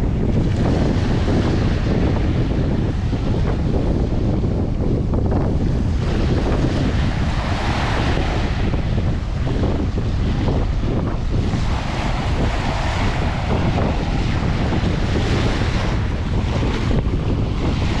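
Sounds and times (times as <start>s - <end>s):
surf breaking on beach: 0.0s - 18.0s
wind buffeting microphone: 0.0s - 18.0s.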